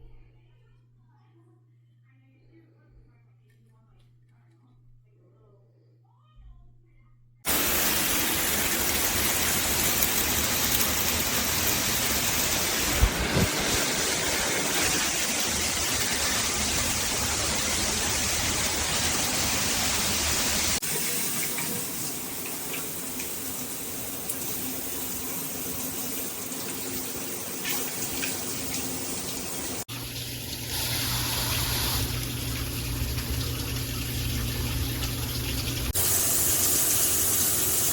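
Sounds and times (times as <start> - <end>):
water spraying from shower head: 7.5 - 37.9.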